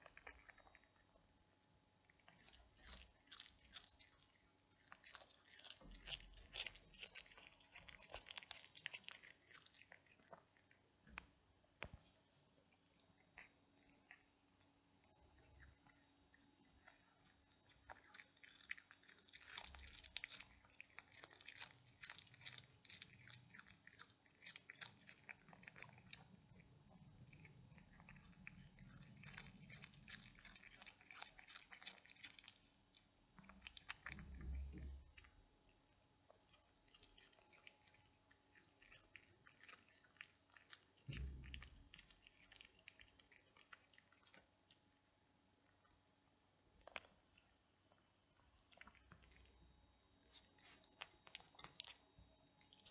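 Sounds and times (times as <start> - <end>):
cat crunching food: 0.0 - 11.8, 12.8 - 52.9.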